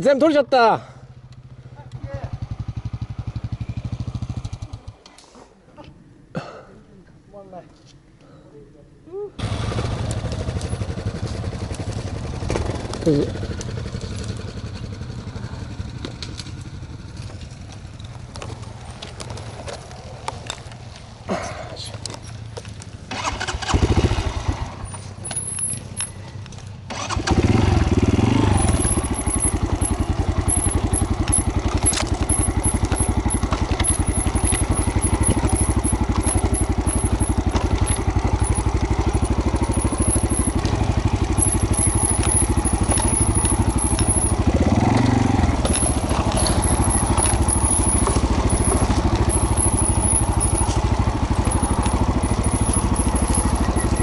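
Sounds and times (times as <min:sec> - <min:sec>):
motorcycle engine idling: 0:00.7 - 0:05.0, 0:09.4 - 0:54.0
motorcycle engine revving: 0:01.1 - 0:05.1, 0:09.4 - 0:20.9, 0:22.3 - 0:26.2, 0:26.8 - 0:54.0
motorcycle engine cranking: 0:09.4 - 0:21.1, 0:22.0 - 0:54.0.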